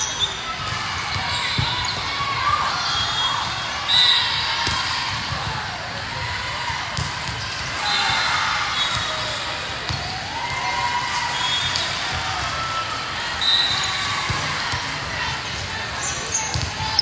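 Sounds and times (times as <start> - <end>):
echoing voices in sports hall: 0.0 - 17.0.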